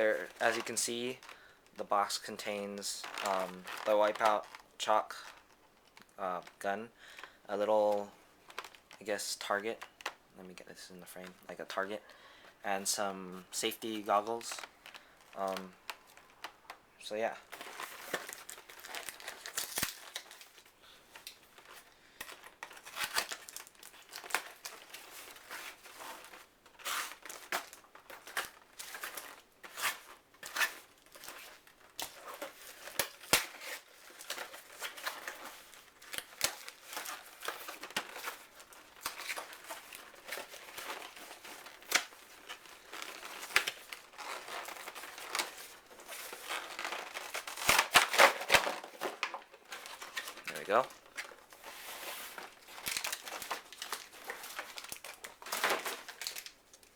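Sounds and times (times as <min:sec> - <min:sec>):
packaging crinkling and rustling: 0:00.0 - 0:10.2, 0:12.8 - 0:56.9.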